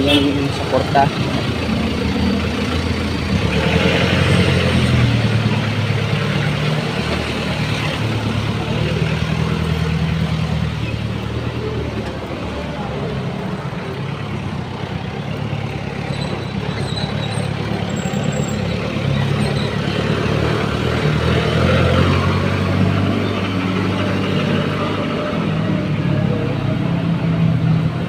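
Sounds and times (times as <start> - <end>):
street noise: 0.0 - 28.0
vehicle engines running: 0.0 - 28.0.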